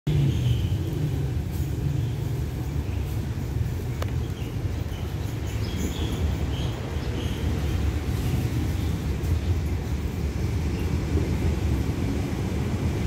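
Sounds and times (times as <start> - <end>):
diesel train rumbling: 0.1 - 13.0.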